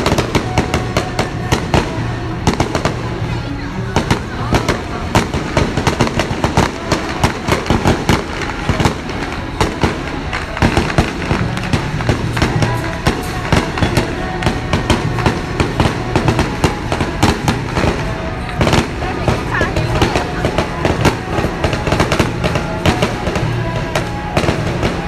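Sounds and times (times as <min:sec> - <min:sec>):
firecrackers popping: 0:00.0 - 0:25.0
music playing: 0:00.0 - 0:25.0.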